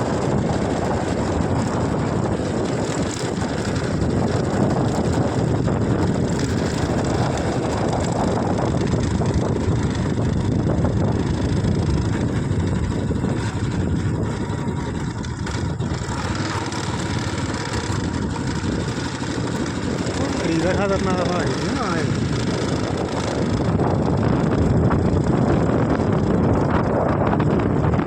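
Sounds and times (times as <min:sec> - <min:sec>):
vehicle running steadily: 0:00.0 - 0:28.0.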